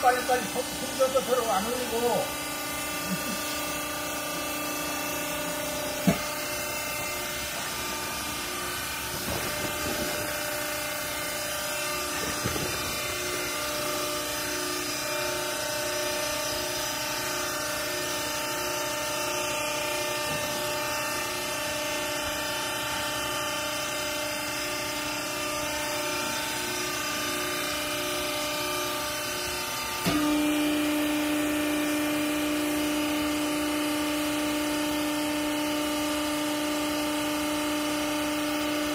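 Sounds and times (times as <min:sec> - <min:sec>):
hydraulic machine hum: 0:00.0 - 0:38.9.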